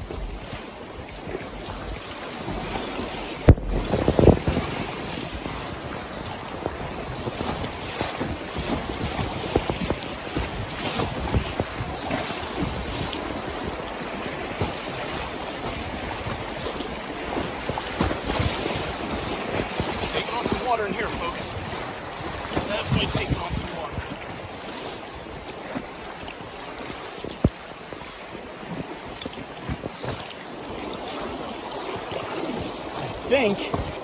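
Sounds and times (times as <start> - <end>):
whitewater rapids rushing: 2.3 - 26.8, 29.4 - 34.0.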